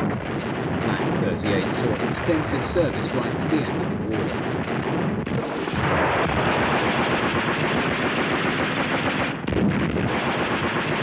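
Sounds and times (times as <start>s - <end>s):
rapid automatic gunfire: 0.0s - 11.0s.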